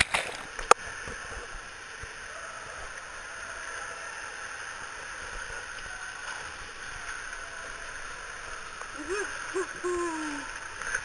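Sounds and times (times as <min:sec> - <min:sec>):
water rushing down slide tube: 0:00.0 - 0:11.0.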